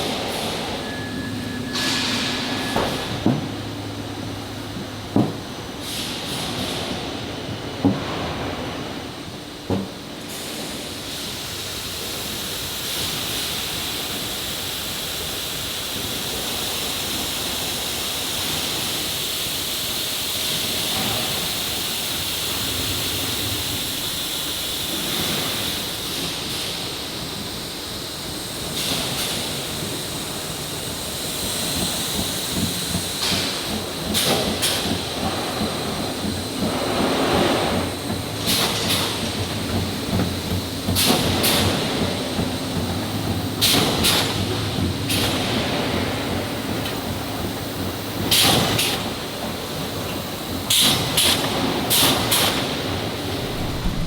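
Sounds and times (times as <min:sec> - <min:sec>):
machinery noise with hiss: 0:00.0 - 0:54.0.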